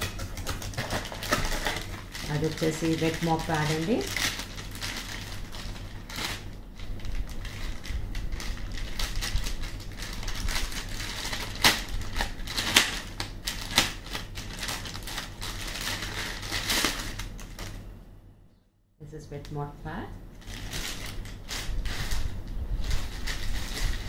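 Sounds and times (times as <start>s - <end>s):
plastic bag crinkling: 0.0s - 17.9s, 20.4s - 24.0s.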